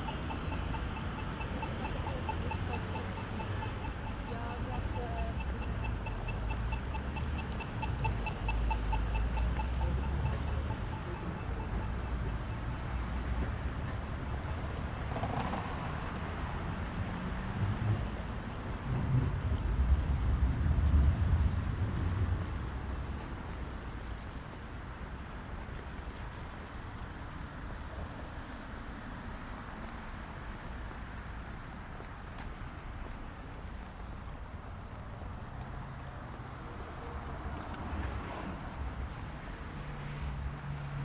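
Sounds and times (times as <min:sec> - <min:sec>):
city street traffic rumble: 0:00.0 - 0:41.0.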